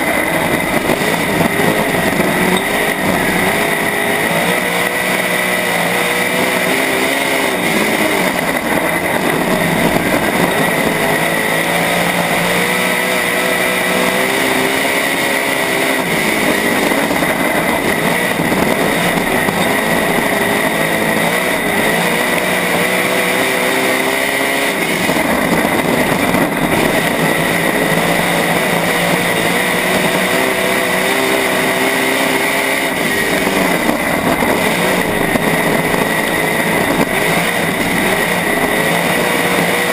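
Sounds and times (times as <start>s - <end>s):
race car engine revving: 0.0s - 39.9s
steady high whine: 0.0s - 39.9s.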